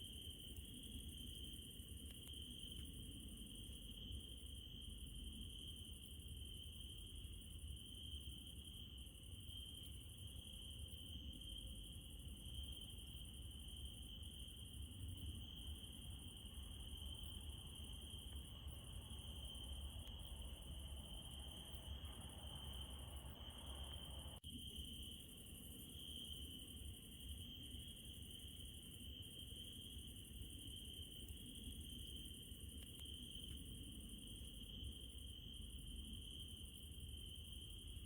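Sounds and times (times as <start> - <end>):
crickets trilling: 0.0 - 38.0
higher pulsing insect chorus: 0.0 - 38.0.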